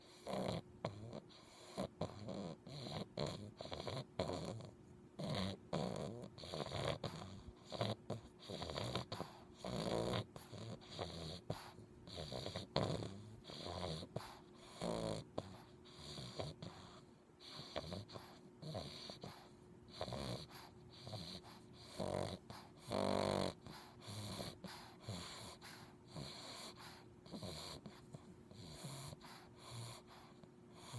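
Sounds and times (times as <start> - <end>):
puppy snoring and snorting: 0.0 - 30.9.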